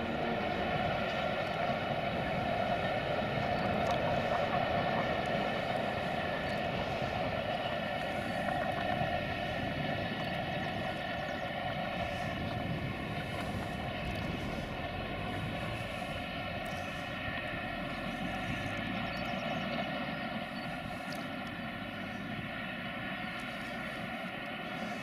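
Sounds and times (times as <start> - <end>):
mechanical engine drone: 0.0 - 25.0.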